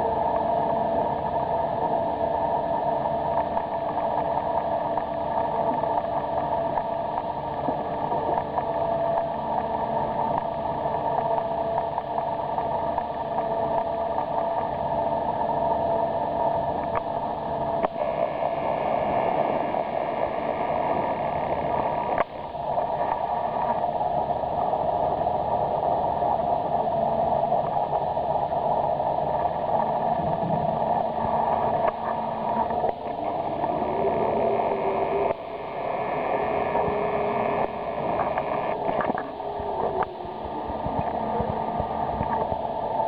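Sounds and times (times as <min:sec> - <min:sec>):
faint steady tones: 0:00.0 - 0:43.0
machinery hum: 0:00.0 - 0:43.0.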